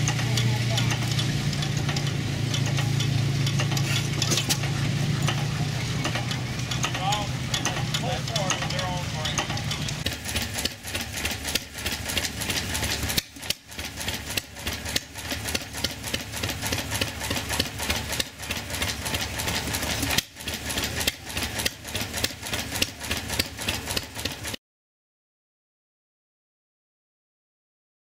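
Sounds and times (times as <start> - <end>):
stationary gas engine clattering: 0.0 - 24.6.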